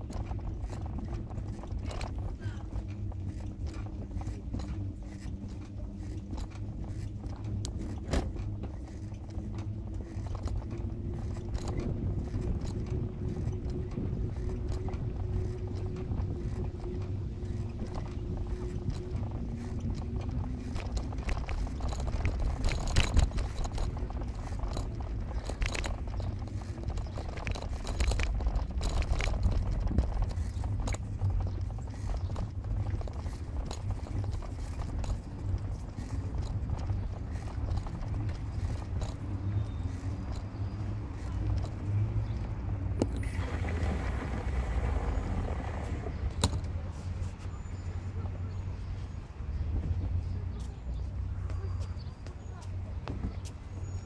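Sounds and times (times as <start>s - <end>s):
clicks knocks and rattles: 0.0s - 44.9s, 45.5s - 47.3s
vehicle rumble: 0.0s - 54.0s.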